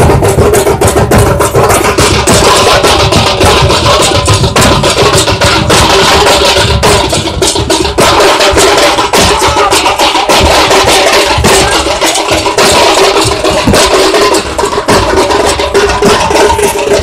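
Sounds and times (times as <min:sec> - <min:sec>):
barrel drums beaten with sticks: 0:00.0 - 0:17.0.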